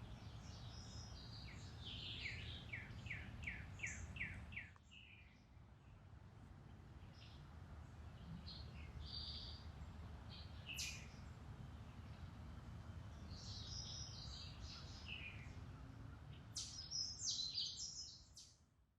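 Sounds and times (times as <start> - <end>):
songbirds chirping: 0.0 - 18.7.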